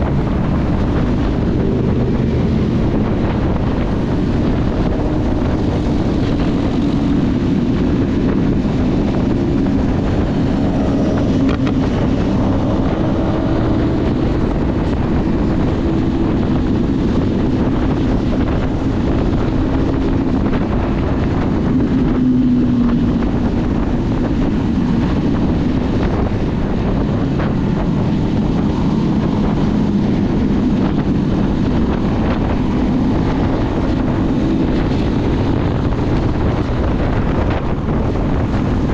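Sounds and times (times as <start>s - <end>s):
motorcycle engine drone: 0.0s - 38.9s
wind buffeting on microphone: 0.0s - 38.9s.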